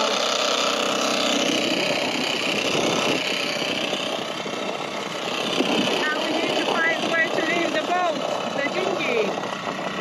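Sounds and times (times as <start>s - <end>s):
outboard motor running: 0.0s - 10.0s.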